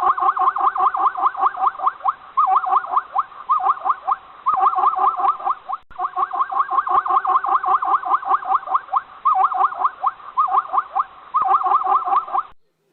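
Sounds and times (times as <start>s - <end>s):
small animal squeaking: 0.0s - 12.5s.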